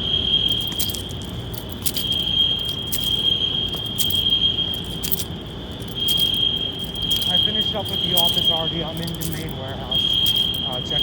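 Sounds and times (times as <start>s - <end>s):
fire alarm tone: 0.0s - 11.0s.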